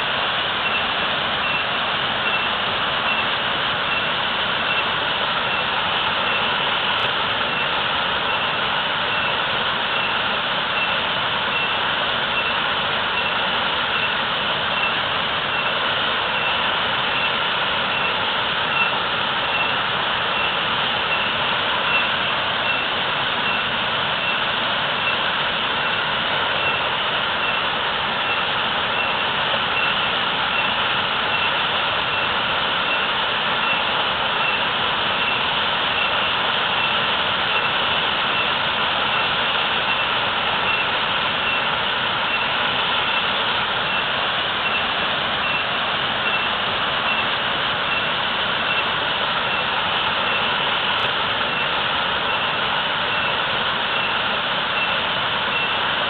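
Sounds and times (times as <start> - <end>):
waterfall pouring heavily: 0.0 - 56.0.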